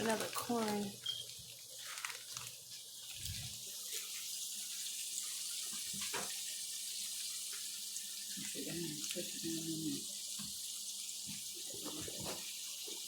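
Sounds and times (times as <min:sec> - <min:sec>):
boiling water hissing: 0:00.0 - 0:13.0.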